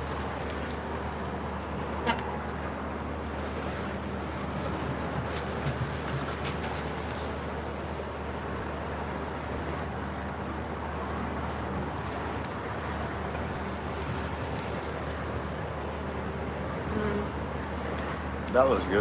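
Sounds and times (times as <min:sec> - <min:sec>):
vehicle engine rumble and hum: 0:00.0 - 0:19.0.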